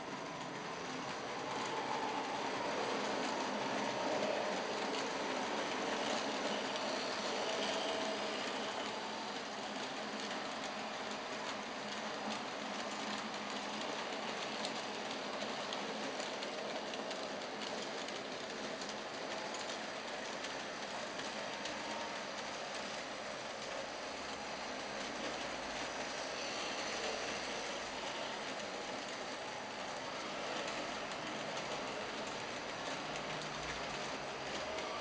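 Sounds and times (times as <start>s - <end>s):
model train wheels clicking: 0.0s - 35.0s.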